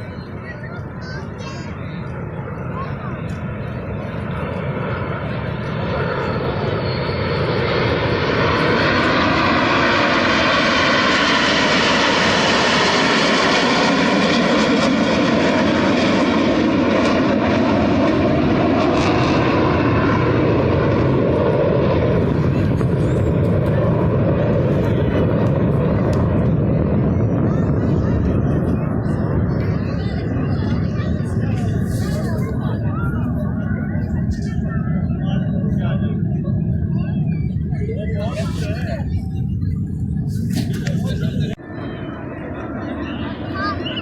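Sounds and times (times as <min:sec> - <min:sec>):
aircraft engines flying past: 0:00.0 - 0:44.0.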